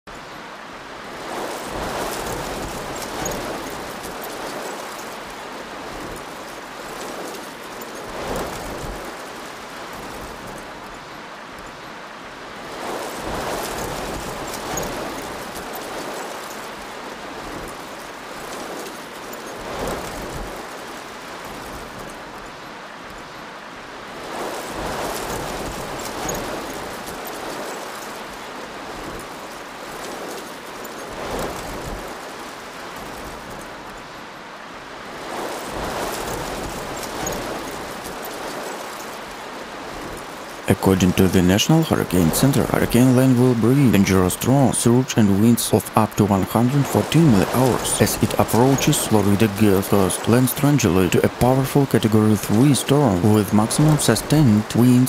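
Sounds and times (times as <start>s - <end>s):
wind-driven heavy rain: 0.0s - 55.0s.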